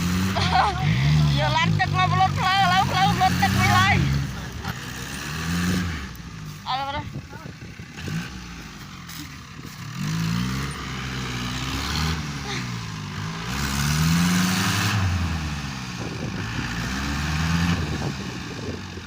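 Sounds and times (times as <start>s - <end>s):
excavator diesel engine working: 0.0s - 19.0s.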